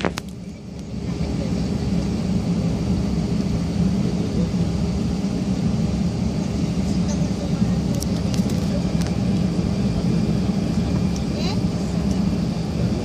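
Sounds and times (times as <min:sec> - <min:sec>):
airliner engines rumbling in cabin: 0:00.0 - 0:13.0.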